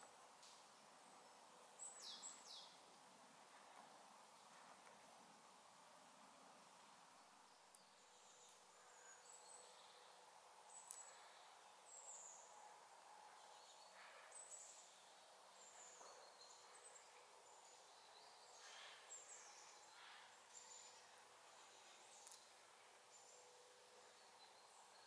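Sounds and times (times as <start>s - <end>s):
small birds chirping: 0.0s - 3.0s, 7.0s - 12.6s, 13.3s - 25.0s.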